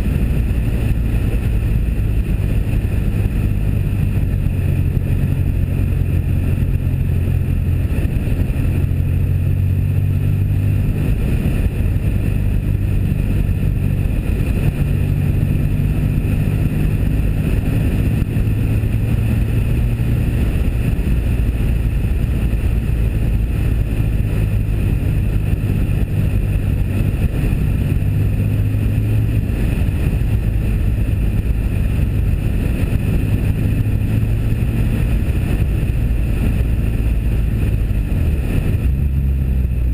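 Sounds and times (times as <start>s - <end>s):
car engine droning at speed: 0.0s - 39.9s
wind buffeting microphone: 0.0s - 39.9s.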